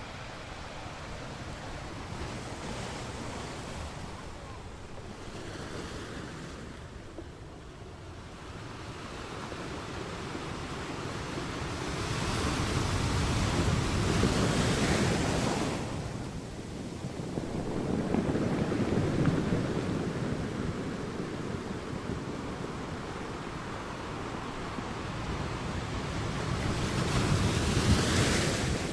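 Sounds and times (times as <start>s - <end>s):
sea waves breaking on shore: 0.0s - 28.9s.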